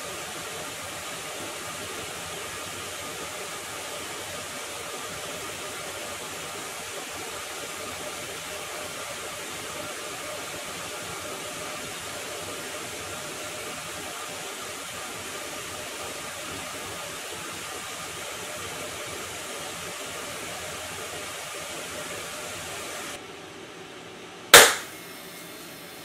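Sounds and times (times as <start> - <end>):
cooling fans running: 0.0 - 26.0.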